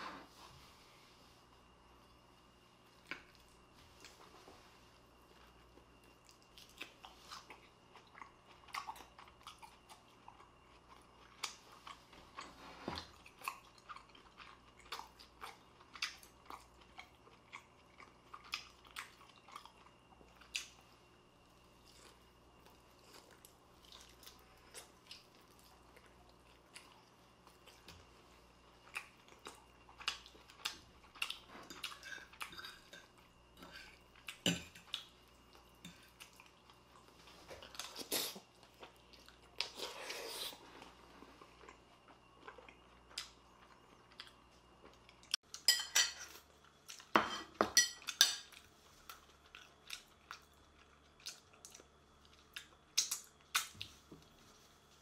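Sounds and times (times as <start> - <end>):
person chewing food: 5.2 - 47.2, 47.9 - 55.0.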